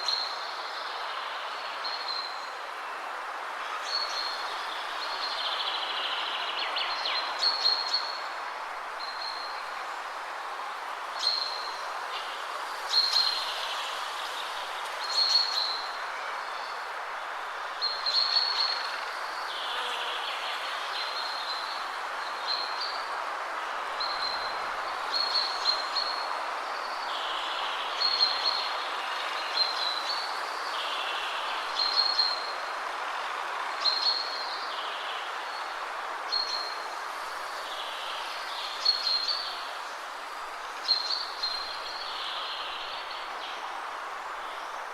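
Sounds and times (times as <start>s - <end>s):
wind rustling through trees: 0.0s - 44.9s.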